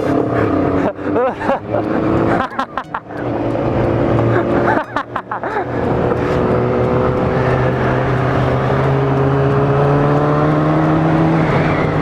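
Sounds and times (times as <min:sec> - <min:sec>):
wind and road noise: 0:00.0 - 0:12.0
motorcycle engine pitch rising: 0:00.6 - 0:12.0.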